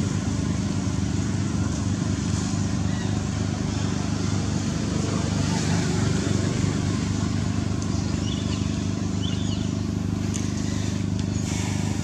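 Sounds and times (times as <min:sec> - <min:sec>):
motor engine droning: 0:00.0 - 0:12.0.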